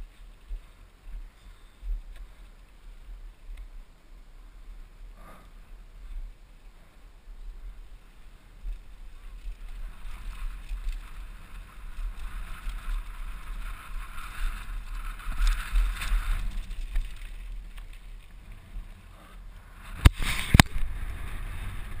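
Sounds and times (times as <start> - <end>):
bike tyres rolling on dirt: 0.0 - 22.0
wind rumbling on microphone: 0.0 - 22.0.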